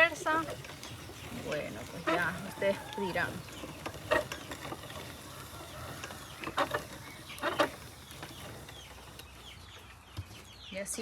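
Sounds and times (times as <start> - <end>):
mechanism squeaking: 0.0 - 10.0
hand mill grinding rumble: 0.0 - 11.0.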